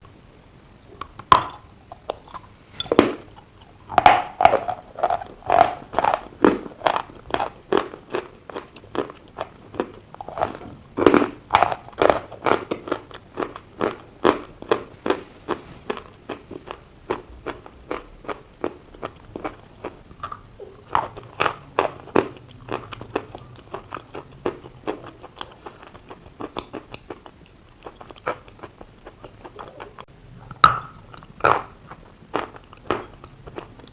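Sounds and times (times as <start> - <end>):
person chewing crunchy chalk: 1.1 - 33.9.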